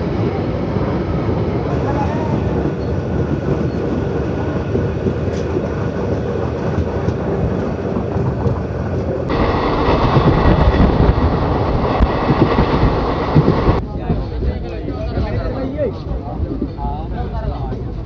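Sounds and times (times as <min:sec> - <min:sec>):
train rumbling and rattling: 0:00.0 - 0:18.0.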